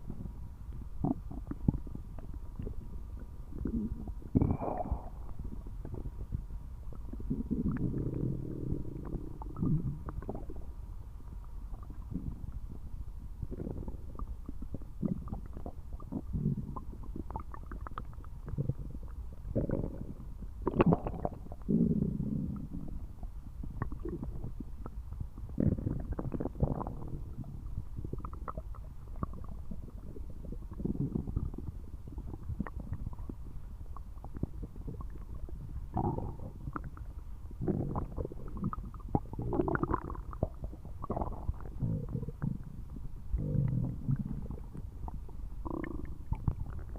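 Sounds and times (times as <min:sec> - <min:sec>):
stomach gurgling: 0:00.0 - 0:46.9.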